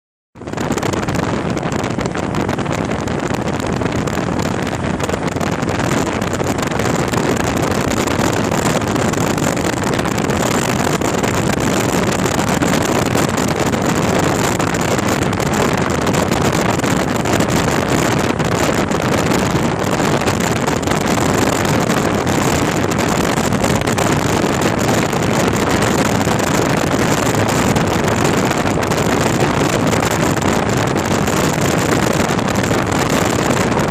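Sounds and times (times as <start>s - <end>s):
motorcycle engine running at speed: 0.4s - 33.9s
wind noise on microphone: 0.4s - 33.9s.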